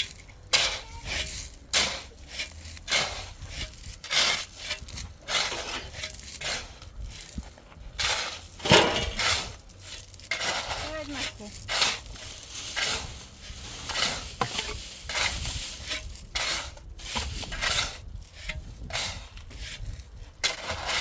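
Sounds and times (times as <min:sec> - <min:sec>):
crunching scraping strokes: 0:00.0 - 0:21.0.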